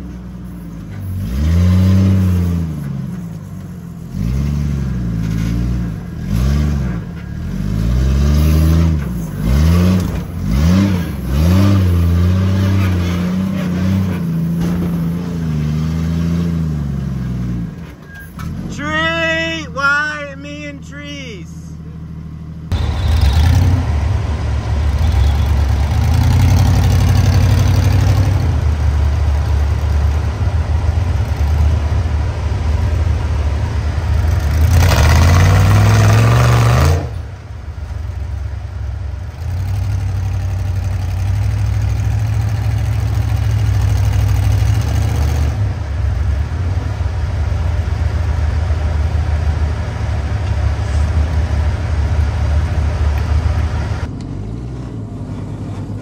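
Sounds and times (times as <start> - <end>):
off-road vehicle engine: 0.0 - 56.0.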